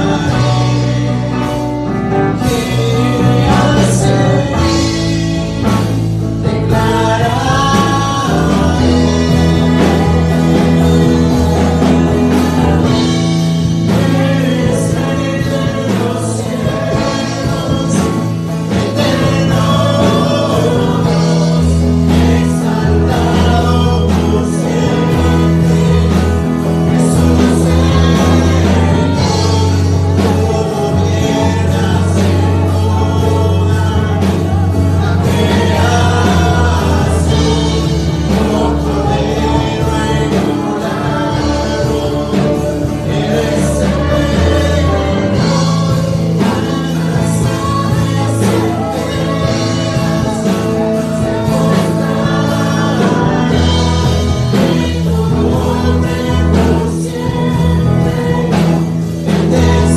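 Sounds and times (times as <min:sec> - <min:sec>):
instrumental accompaniment: 0:00.0 - 0:59.9
man singing: 0:00.0 - 0:59.9.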